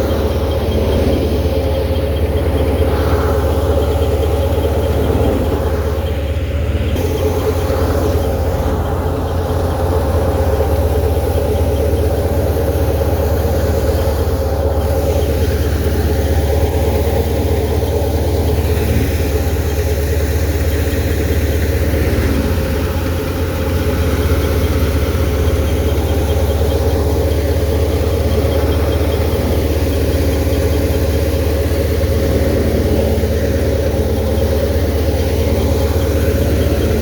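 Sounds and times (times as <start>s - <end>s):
thresher machine droning: 0.0s - 37.0s
tractor engine running: 0.0s - 37.0s.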